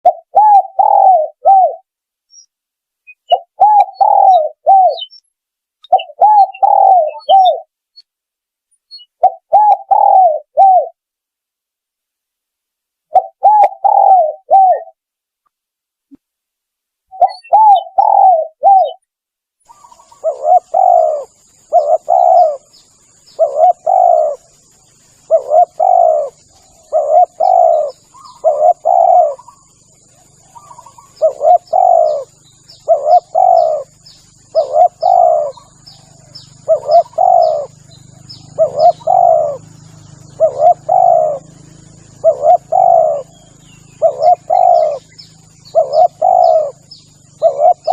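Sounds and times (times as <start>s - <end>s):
dove cooing: 0.0s - 1.9s, 3.2s - 5.2s, 5.8s - 7.7s, 9.1s - 11.0s, 13.1s - 15.0s, 17.1s - 19.0s, 19.7s - 47.9s.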